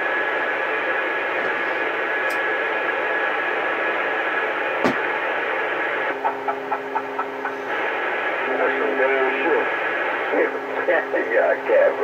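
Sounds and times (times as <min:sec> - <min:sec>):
radio static hiss: 0:00.2 - 0:12.0.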